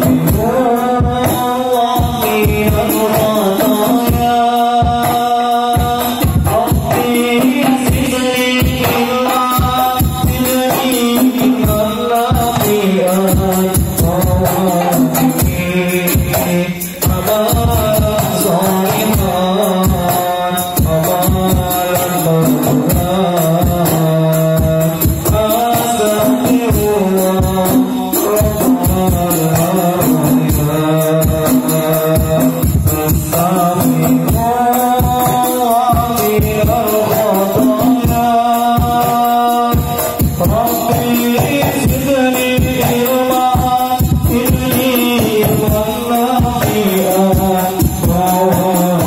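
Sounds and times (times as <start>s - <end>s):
frame drum beats: 0.0s - 49.0s
men singing devotional song: 0.0s - 49.0s.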